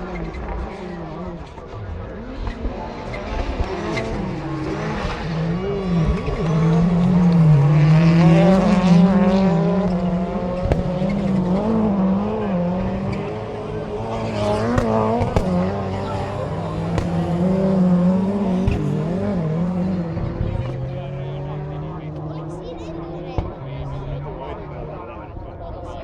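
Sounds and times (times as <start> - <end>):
racing car engines revving: 0.0 - 26.0.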